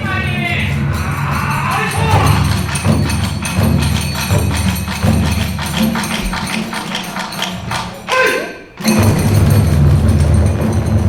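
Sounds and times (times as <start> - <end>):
hand cymbals clashing: 0.0 - 11.0
taiko drums beating: 0.0 - 11.0.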